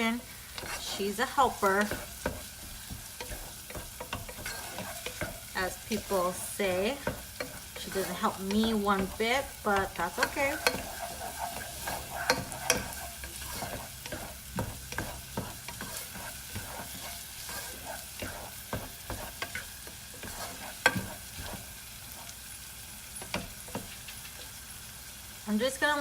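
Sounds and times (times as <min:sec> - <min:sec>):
onion sizzling in hot oil: 0:00.0 - 0:26.0
utensil tapping against pan: 0:00.6 - 0:21.6, 0:23.2 - 0:24.4.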